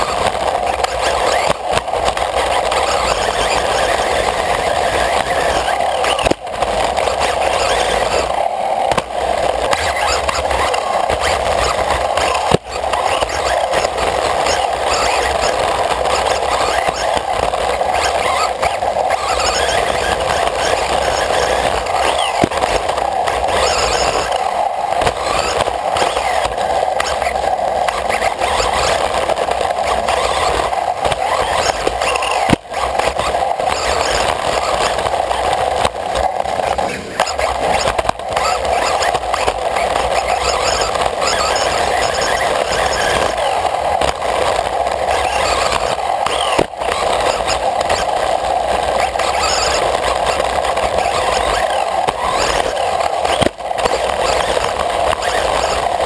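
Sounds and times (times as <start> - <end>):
rc buggy drivetrain and tyres: 0.0 - 56.0.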